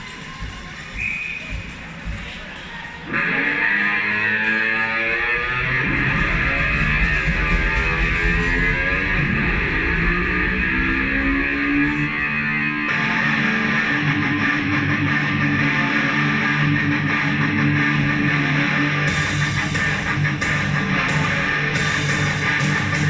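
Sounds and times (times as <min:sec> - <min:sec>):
guitar and bass music: 0:03.1 - 0:23.0.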